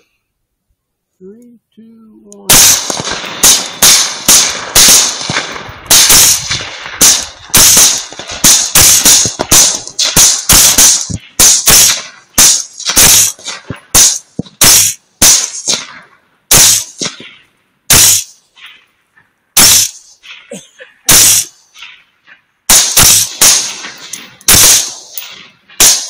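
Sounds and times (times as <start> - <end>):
rifle gunfire: 2.5 - 18.7, 19.6 - 20.4, 21.1 - 22.0, 22.7 - 26.0.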